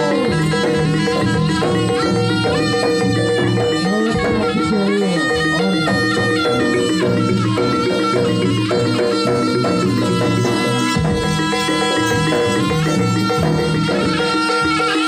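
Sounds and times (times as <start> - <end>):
drums: 0.0 - 15.0
reedy double-reed trumpet melody: 0.0 - 15.0.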